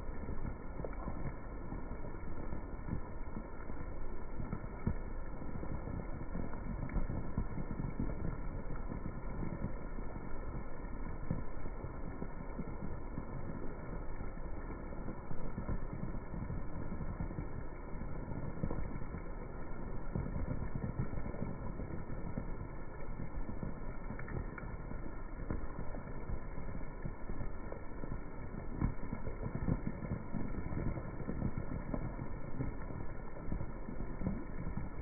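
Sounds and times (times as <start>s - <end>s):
heavy rain on paving and puddles: 0.0s - 35.0s.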